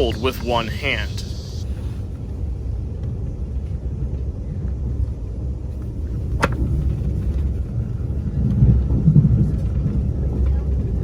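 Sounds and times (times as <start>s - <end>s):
train running at speed: 0.0s - 11.0s.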